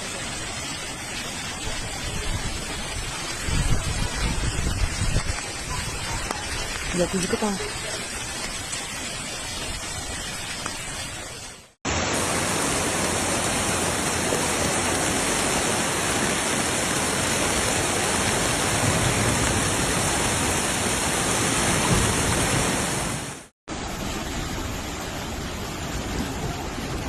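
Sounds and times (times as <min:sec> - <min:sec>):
heavy rain and flood water rushing: 0:00.0 - 0:27.0.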